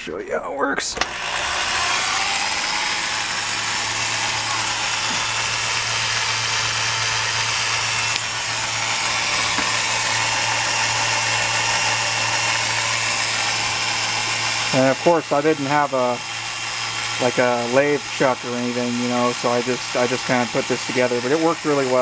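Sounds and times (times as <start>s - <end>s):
electric drill whirring: 0.9s - 22.0s.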